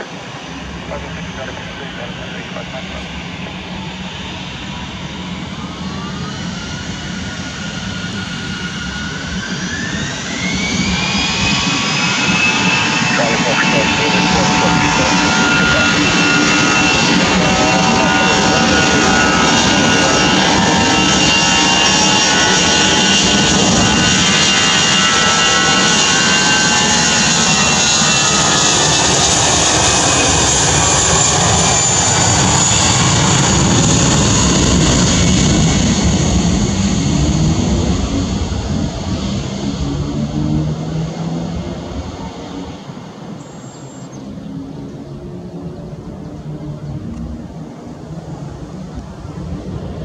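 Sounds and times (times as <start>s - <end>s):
jet engines roaring with high whine: 0.0s - 50.0s.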